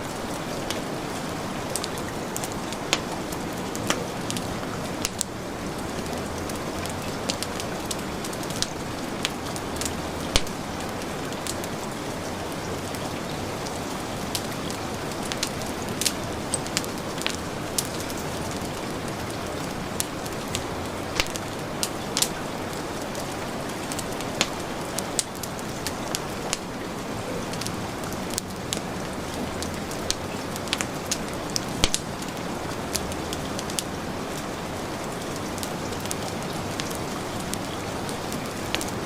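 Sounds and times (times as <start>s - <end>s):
heavy rain hissing: 0.0s - 39.0s
wood fire crackling: 0.0s - 39.0s.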